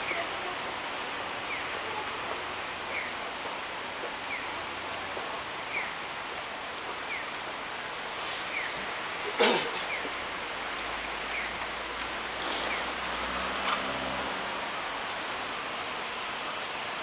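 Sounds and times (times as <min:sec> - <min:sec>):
street ambience hiss: 0:00.0 - 0:17.0.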